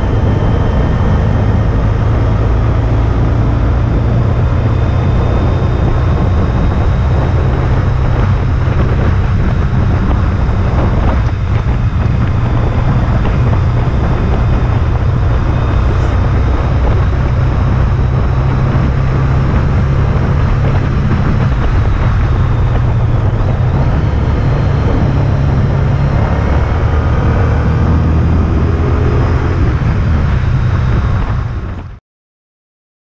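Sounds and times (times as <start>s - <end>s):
motorcycle engine cruising: 0.0s - 32.0s
wind and road noise: 0.0s - 32.0s.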